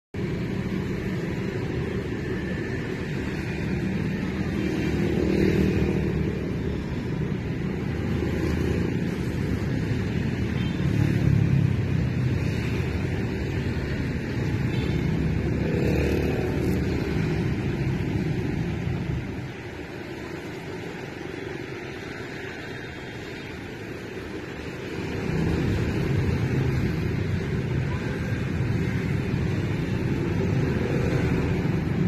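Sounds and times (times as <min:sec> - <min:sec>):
road traffic noise: 0:00.1 - 0:32.0
vehicles passing: 0:00.2 - 0:32.0.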